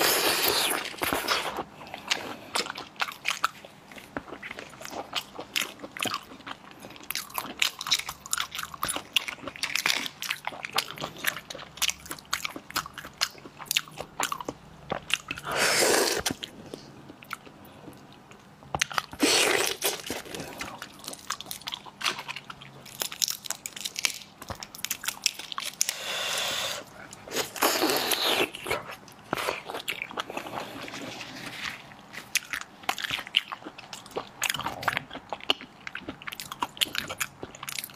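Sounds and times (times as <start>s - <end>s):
chewing and crunching shell: 0.0s - 37.9s.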